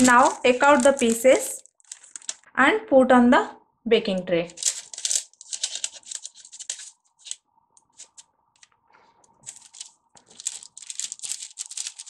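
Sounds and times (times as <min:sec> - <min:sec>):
paper rustling and crinkling: 0:00.0 - 0:02.5, 0:04.5 - 0:12.0.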